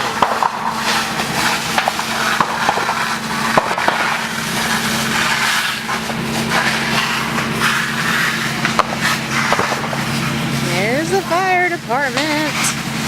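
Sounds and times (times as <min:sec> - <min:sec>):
bamboo crackling and popping: 0:00.0 - 0:10.7
rush of flame: 0:00.0 - 0:13.0.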